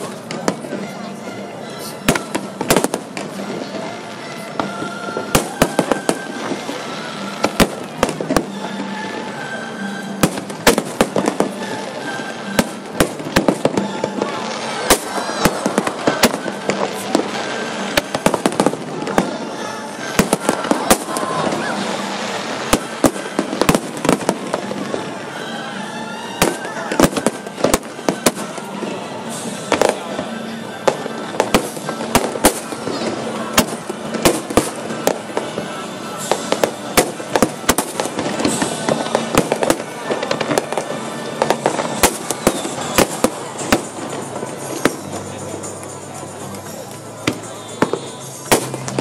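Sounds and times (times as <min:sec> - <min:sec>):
fireworks bursting with sharp bangs: 0:00.0 - 0:49.0
music: 0:00.0 - 0:49.0
voices: 0:00.0 - 0:49.0.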